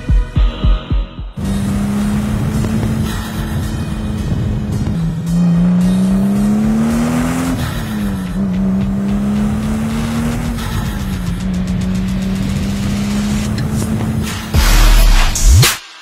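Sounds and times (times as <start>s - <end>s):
background music: 0.0s - 16.0s
car engine accelerating: 1.4s - 15.6s.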